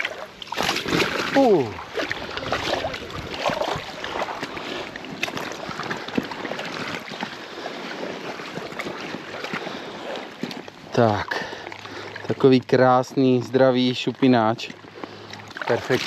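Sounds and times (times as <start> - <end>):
water sloshing and lapping: 0.0 - 16.0.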